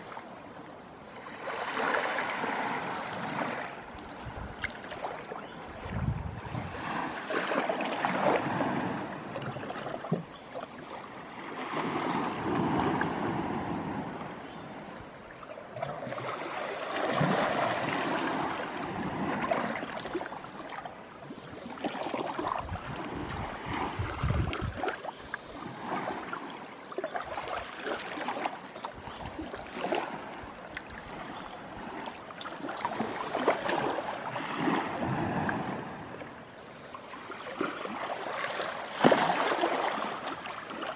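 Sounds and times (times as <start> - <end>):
calm sea lapping against rocks: 0.0 - 40.9.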